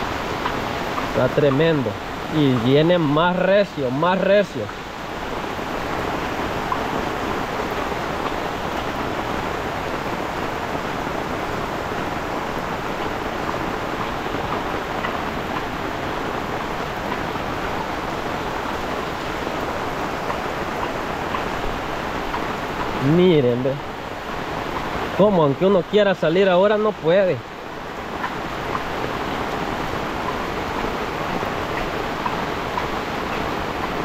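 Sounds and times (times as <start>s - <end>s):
heavy rain pouring: 0.0s - 34.0s
runoff water rushing: 0.0s - 34.0s.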